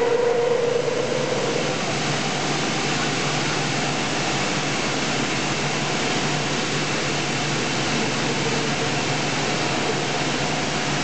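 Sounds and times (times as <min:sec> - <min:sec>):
boring machine humming: 0:00.0 - 0:11.0.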